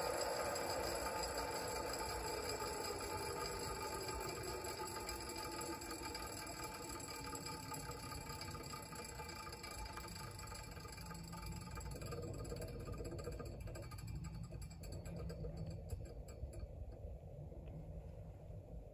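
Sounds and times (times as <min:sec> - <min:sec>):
table saw winding down: 0:00.0 - 0:16.1.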